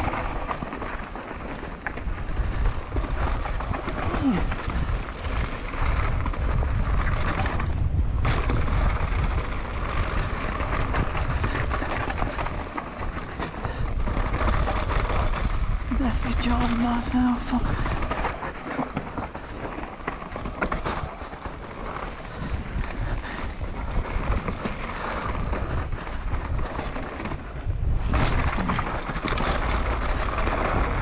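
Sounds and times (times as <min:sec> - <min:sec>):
bike rattling: 0:00.0 - 0:31.0
tyres rolling over loose dirt: 0:00.0 - 0:31.0
wind rumble on microphone: 0:00.0 - 0:31.0.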